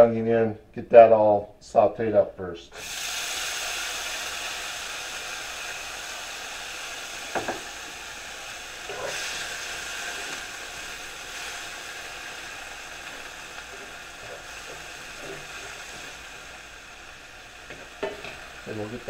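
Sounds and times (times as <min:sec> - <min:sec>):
onion sizzling in a skillet: 0:02.8 - 0:19.0.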